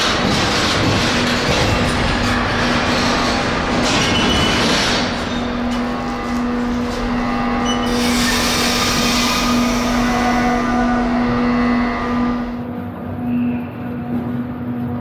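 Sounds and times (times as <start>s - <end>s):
freight wagons rumbling over rails: 0.0s - 15.0s
steady low hum: 0.1s - 15.0s.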